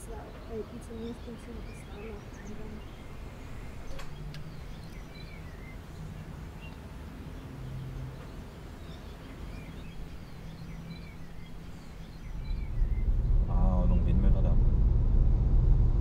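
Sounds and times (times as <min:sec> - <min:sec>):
small birds chirping: 0:00.0 - 0:14.2
low outdoor background noise: 0:00.0 - 0:16.0.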